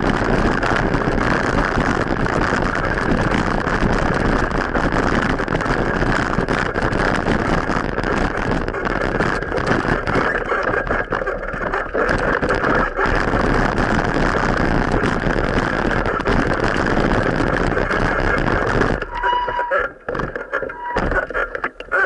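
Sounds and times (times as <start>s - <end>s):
bumps on camera microphone: 0.0s - 22.0s.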